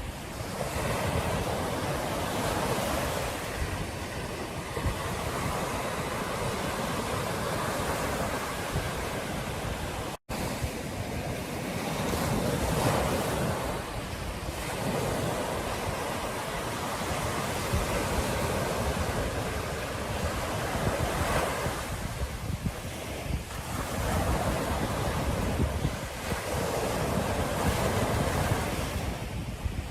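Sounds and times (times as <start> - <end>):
surf breaking on a beach: 0.0 - 29.9
wind on microphone: 0.0 - 29.9.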